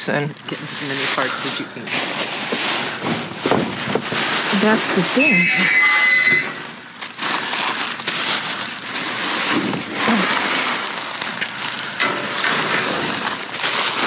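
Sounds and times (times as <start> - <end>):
rustling and crunching of trash bags: 0.0 - 14.0.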